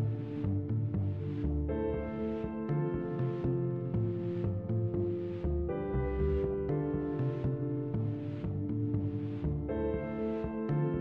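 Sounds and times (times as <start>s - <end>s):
soft instrumental background music: 0.0s - 11.0s.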